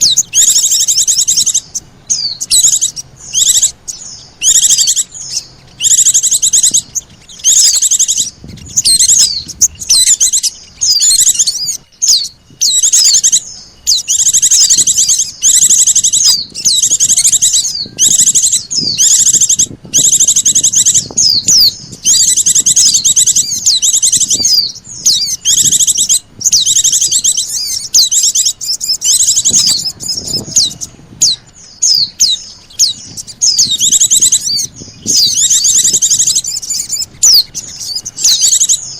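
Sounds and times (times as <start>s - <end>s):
birds chattering trills: 0.0s - 38.9s.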